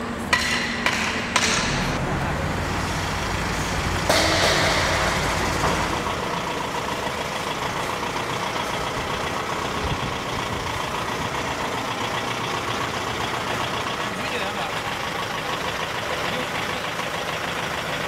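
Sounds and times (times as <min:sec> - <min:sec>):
truck diesel engine running: 0:01.4 - 0:18.0.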